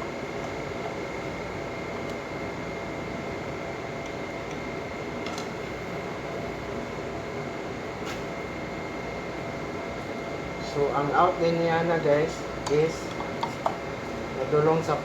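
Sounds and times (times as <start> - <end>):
mechanical background noise: 0.0 - 15.0.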